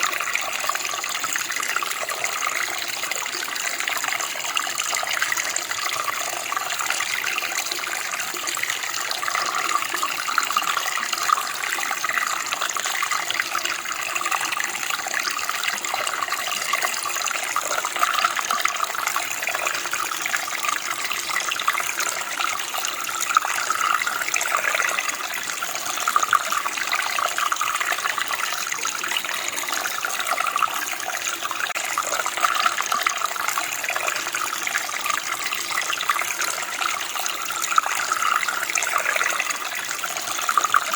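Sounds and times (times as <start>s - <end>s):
stream flowing and splashing: 0.0s - 40.9s.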